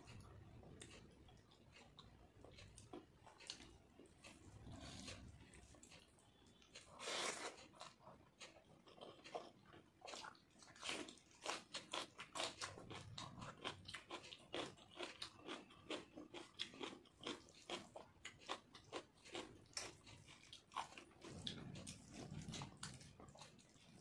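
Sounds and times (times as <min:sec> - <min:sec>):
person chewing with wet smacks: 0:00.0 - 0:24.0.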